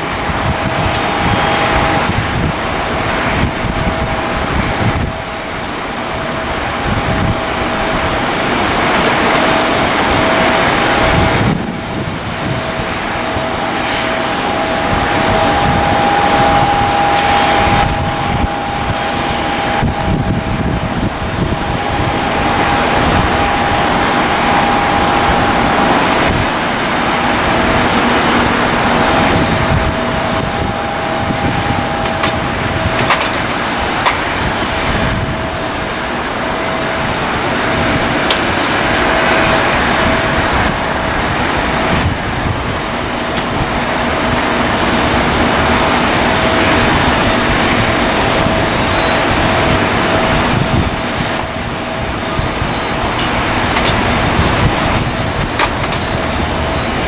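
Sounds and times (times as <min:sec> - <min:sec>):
jet engines running: 0:00.0 - 0:57.0
whining engine tones: 0:00.0 - 0:57.0
wind rumbling on microphone: 0:00.0 - 0:57.0.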